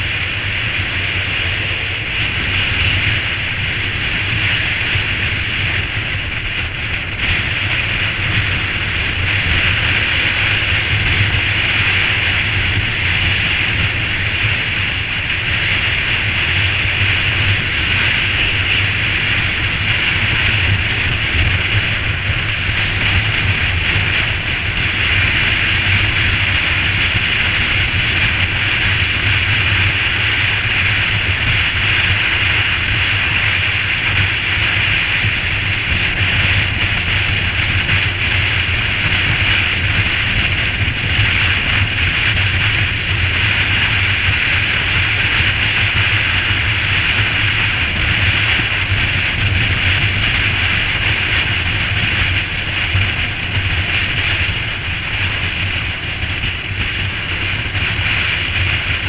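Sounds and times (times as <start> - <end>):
vehicle running noise: 0.0 - 59.0.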